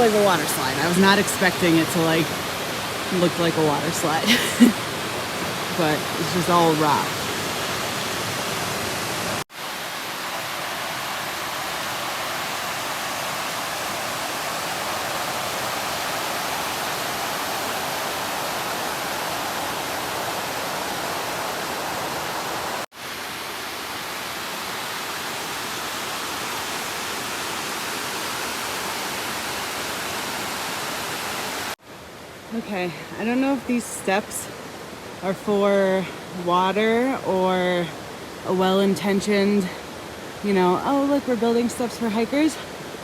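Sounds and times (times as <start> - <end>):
creek water rushing over rock: 0.0 - 43.0.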